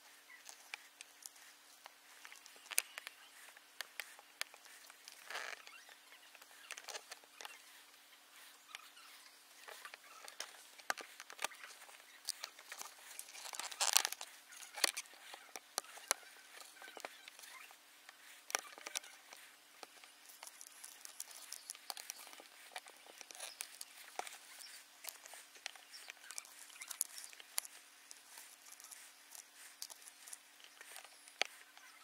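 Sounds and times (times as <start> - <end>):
small scrapes: 0.0 - 32.0.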